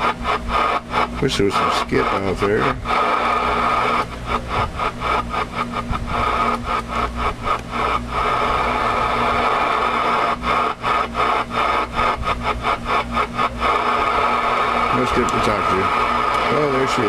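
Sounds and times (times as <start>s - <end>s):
radio static hissing: 0.0s - 17.0s.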